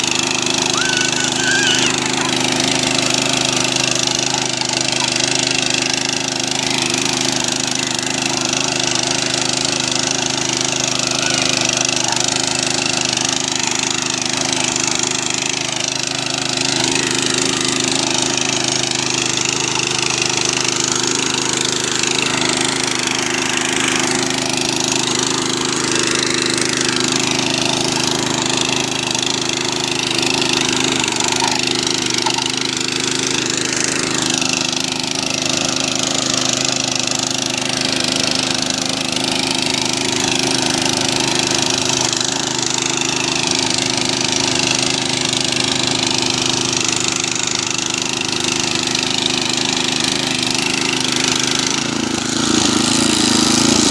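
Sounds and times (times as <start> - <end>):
tiller engine running under load: 0.0 - 53.9.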